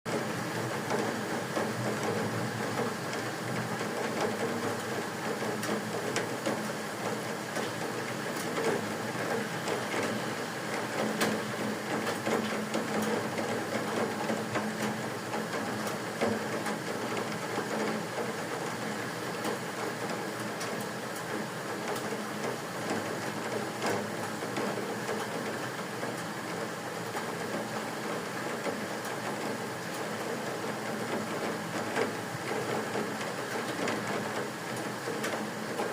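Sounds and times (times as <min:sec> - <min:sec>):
steady rain hissing: 0:00.1 - 0:35.9.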